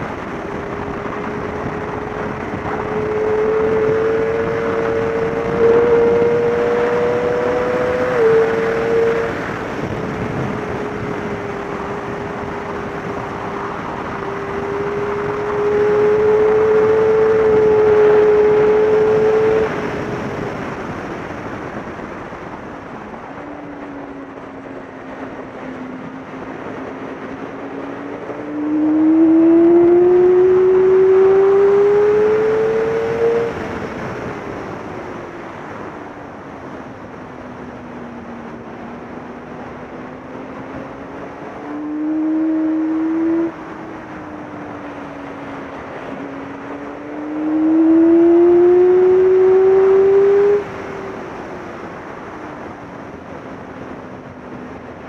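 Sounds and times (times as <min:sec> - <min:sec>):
motorcycle engine at speed: 0:00.0 - 0:55.0
wind rush: 0:00.0 - 0:55.0.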